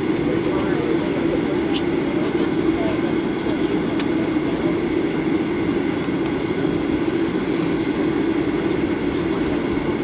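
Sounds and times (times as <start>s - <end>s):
airliner cabin engine hum: 0.0s - 10.0s.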